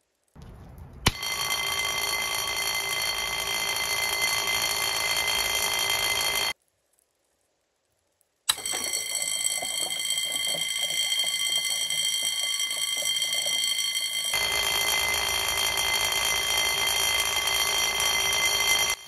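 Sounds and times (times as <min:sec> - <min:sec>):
alarm bell ringing: 0:01.1 - 0:06.6, 0:08.5 - 0:19.0.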